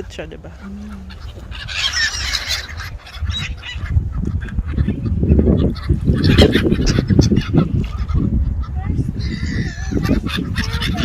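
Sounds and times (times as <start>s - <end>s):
pond birds calling noisily: 0.0s - 11.0s.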